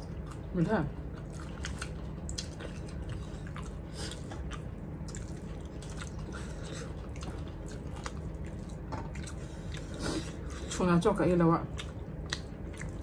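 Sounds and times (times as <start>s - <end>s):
chewing with mouth clicks: 0.0s - 10.8s, 11.6s - 13.0s.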